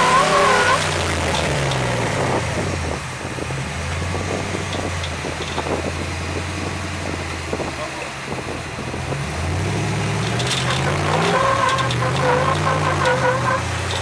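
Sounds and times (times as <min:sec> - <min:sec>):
off-road vehicle engine under load: 0:00.0 - 0:14.0
wind noise on microphone: 0:00.0 - 0:14.0.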